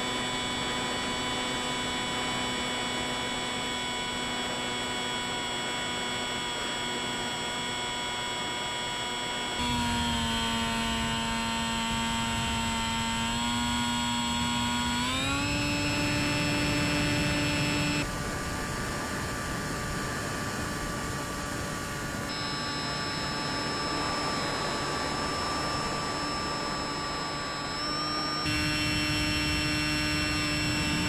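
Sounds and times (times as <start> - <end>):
model plane electric motor whine: 0.0 - 31.0.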